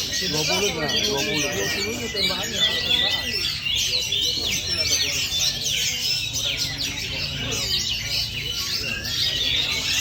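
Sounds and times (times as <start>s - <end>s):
birds singing whistles and chirps: 0.0s - 10.0s.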